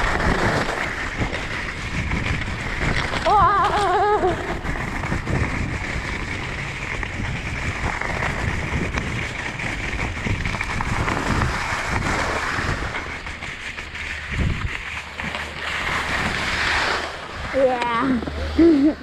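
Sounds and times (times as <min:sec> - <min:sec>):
skis scraping over snow: 0:00.0 - 0:19.0
wind buffeting microphone: 0:00.0 - 0:19.0.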